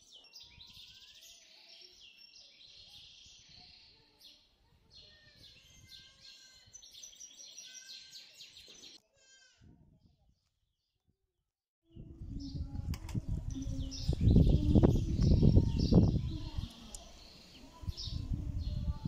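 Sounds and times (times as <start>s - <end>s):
songbirds chirping and trilling: 0.0s - 11.1s, 11.9s - 19.0s.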